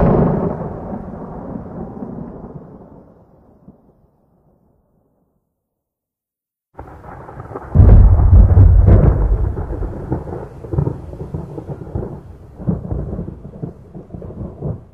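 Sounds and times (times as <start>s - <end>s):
sharp loud thunder crack: 0.0s - 3.8s, 6.8s - 14.9s
rolling thunder rumble: 0.0s - 4.0s, 6.8s - 14.9s.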